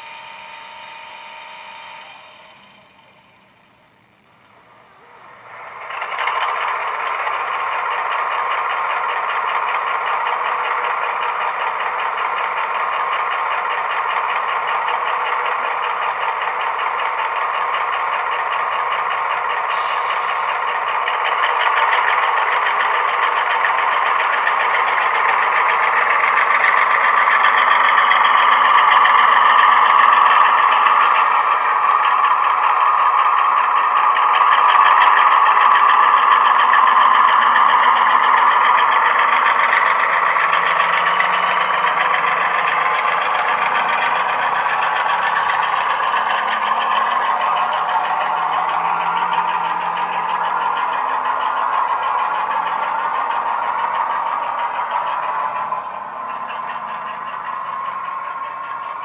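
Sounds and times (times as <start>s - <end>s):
diesel engine sound through small speaker: 0.0s - 59.0s.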